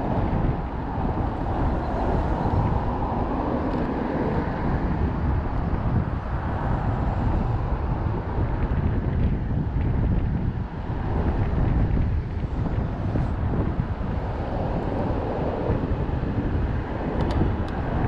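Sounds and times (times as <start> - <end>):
road traffic: 0.0 - 18.0
wind rushing over microphone: 0.0 - 18.0.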